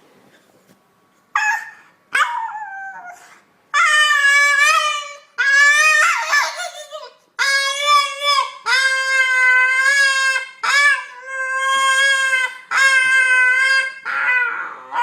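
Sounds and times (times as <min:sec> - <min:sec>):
dog yelping: 0:01.3 - 0:15.0
dog howling: 0:01.4 - 0:06.7, 0:07.4 - 0:15.0.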